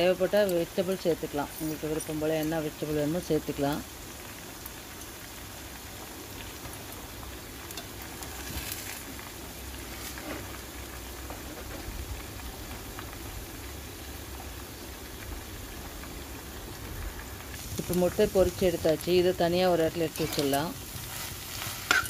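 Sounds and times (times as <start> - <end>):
eggs sizzling in oil: 0.0 - 22.0.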